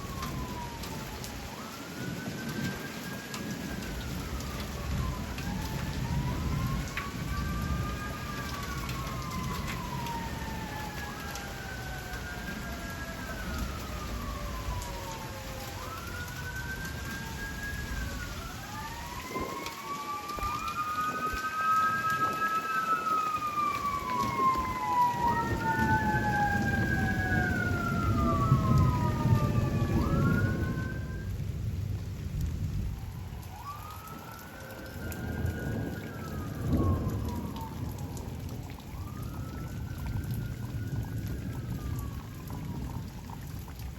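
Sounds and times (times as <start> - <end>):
distant sirens wailing: 0.0 - 43.9
rolling thunder: 0.0 - 43.9
steady rain: 0.0 - 43.9.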